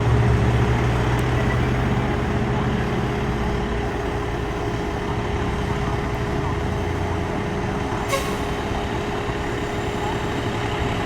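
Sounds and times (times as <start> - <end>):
fire truck diesel engine running: 0.0 - 11.0.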